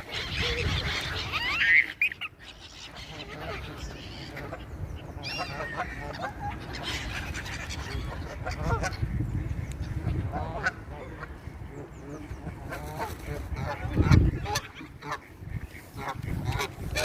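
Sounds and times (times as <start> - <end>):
waterfowl honking: 0.0 - 9.3, 10.0 - 11.4, 12.4 - 17.0.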